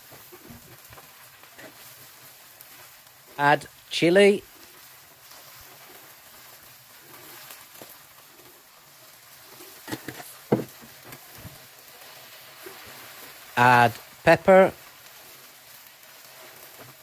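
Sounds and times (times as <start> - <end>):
eggs sizzling in a pan: 0.0 - 17.0.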